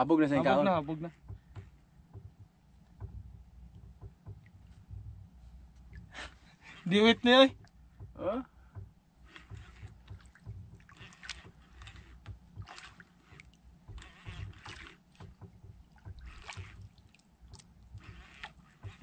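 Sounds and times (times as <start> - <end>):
low steady rumble: 0.0 - 19.0
water lapping against boat hull: 0.0 - 19.0.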